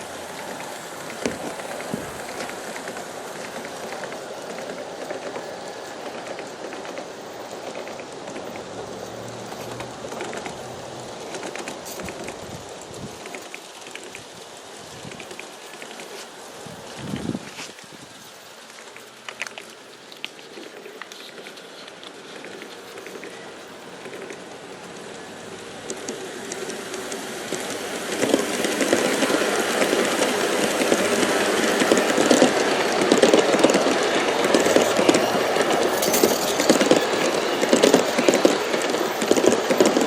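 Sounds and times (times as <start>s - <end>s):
model train wheels clattering: 0.0s - 40.0s.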